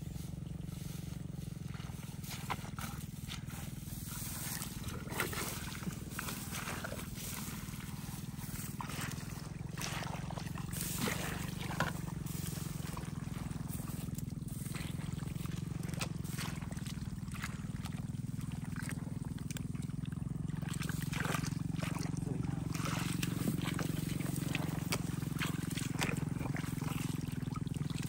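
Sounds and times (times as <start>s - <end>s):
footsteps through long grass: 0.0s - 28.0s.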